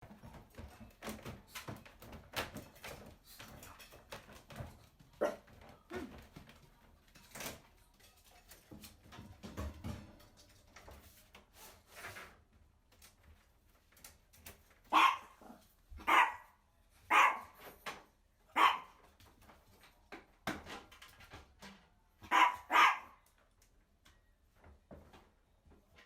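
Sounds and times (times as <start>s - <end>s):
clicks and knocks of movement: 0.0s - 15.0s, 19.0s - 26.0s.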